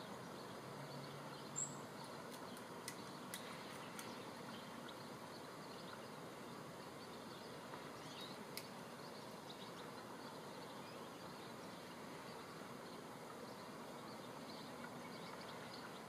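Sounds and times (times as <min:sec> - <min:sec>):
outdoor garden hiss: 0:00.0 - 0:16.0.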